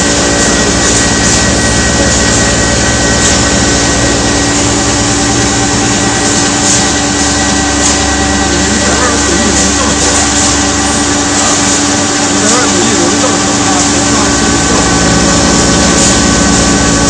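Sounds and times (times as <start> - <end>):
machine tool humming and whining: 0.0 - 17.0.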